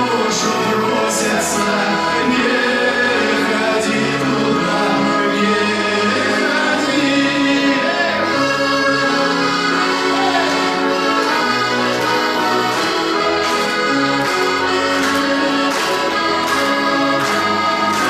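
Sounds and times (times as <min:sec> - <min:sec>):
accordion playing folk-style chords: 0:00.0 - 0:18.0.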